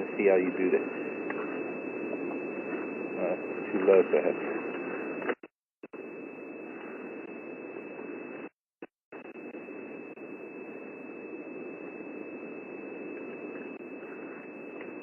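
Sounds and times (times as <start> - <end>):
electronic static hiss: 0.0 - 15.0.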